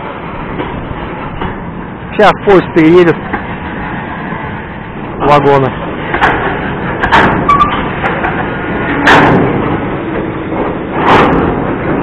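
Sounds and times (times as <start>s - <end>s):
wagon wheels rumbling on rails: 0.0s - 12.0s
loud metallic clunks: 0.4s - 2.1s, 3.0s - 12.0s.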